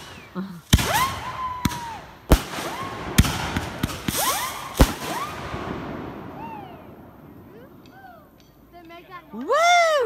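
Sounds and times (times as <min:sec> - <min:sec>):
fireworks bangs: 0:00.0 - 0:08.4.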